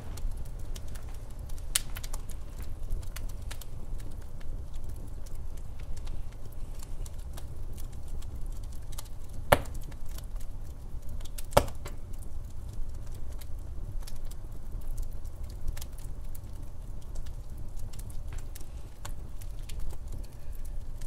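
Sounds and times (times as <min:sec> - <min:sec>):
fire crackles: 0:00.0 - 0:21.0
fireplace fire rumble: 0:00.0 - 0:21.0
sharp fire pops: 0:00.0 - 0:21.0.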